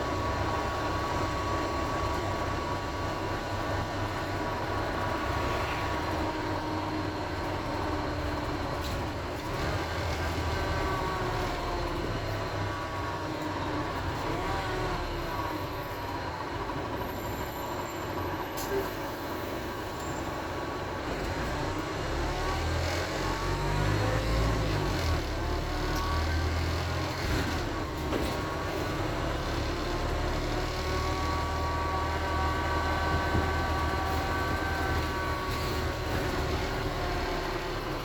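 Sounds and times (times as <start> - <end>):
bus diesel engine rumble: 0.0 - 38.0.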